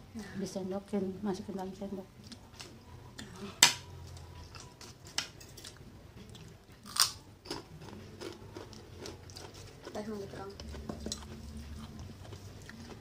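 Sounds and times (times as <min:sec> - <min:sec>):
soft chewing: 0:02.2 - 0:13.0.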